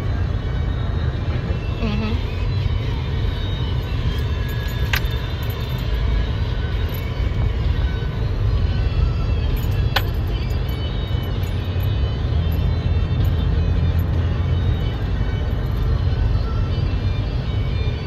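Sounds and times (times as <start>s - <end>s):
car cabin road rumble: 0.0s - 18.0s.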